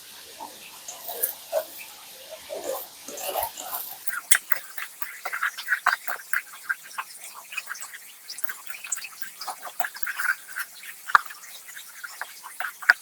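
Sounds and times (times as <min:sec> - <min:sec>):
cake frying in hot oil: 0:00.0 - 0:13.0.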